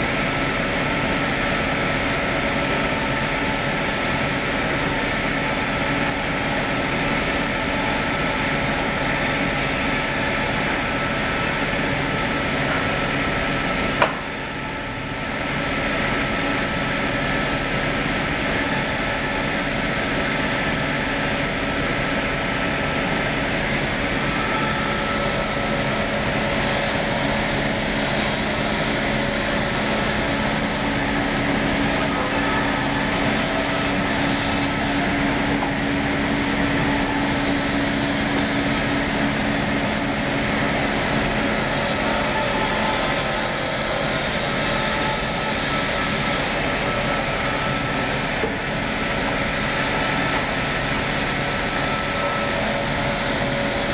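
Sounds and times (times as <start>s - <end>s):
circular saw cutting logs: 0.0s - 53.9s.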